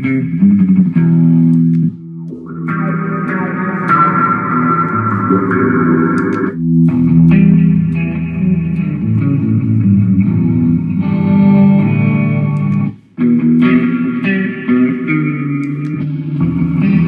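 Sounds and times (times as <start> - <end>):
electric guitar notes and chords: 0.0 - 17.0.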